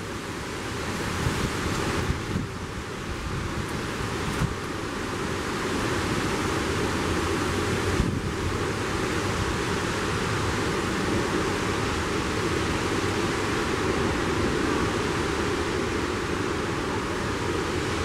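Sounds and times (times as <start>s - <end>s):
strong wind rushing through trees: 0.0s - 18.0s.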